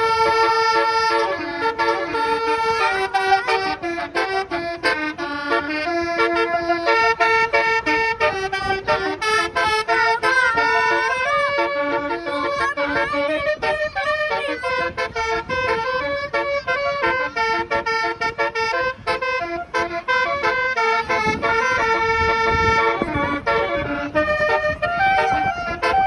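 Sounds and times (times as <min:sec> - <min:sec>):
musical vehicle horn melody: 0:00.0 - 0:26.0.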